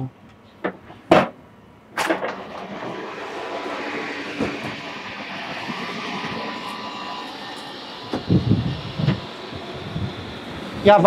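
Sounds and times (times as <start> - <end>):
engine room machinery hum: 1.4 - 11.0.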